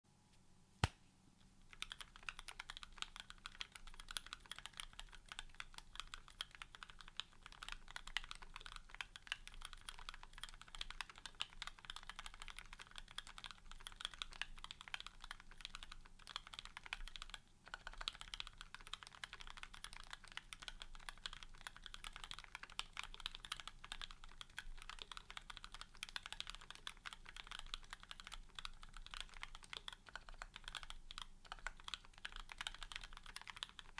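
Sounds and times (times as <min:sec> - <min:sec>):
fast typing on mechanical keyboard: 0:01.7 - 0:33.9.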